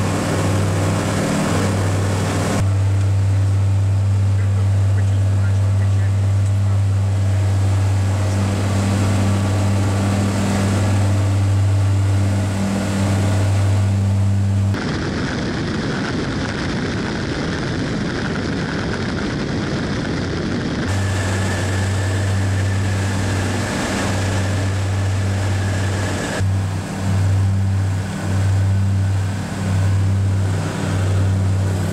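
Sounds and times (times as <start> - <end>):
propeller plane engines droning: 0.0 - 31.9
rushing noise: 5.0 - 31.9.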